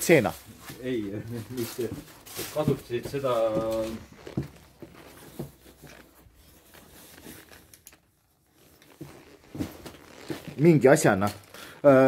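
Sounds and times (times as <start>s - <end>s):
footsteps crunching on rubble: 0.2s - 7.6s, 8.8s - 11.8s.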